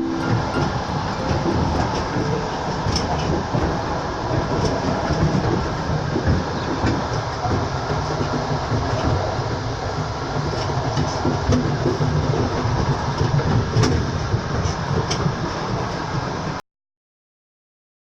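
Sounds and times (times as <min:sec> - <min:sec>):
train wheels on rails: 0:00.0 - 0:16.6.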